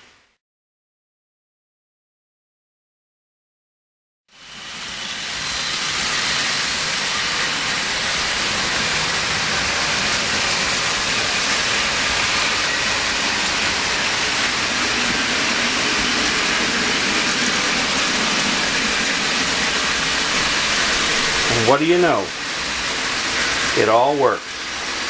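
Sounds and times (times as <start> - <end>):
model trains whirring on rails: 4.3 - 25.0.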